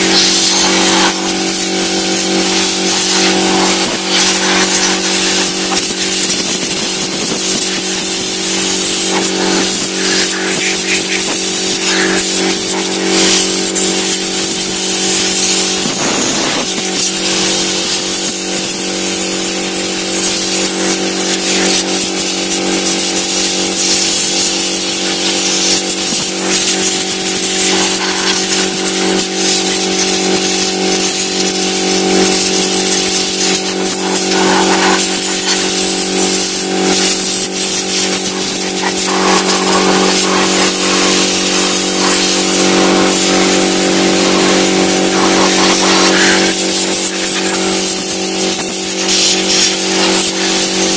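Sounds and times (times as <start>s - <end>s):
air compressor motor humming: 0.0s - 50.9s
compressed air hissing: 0.0s - 50.9s.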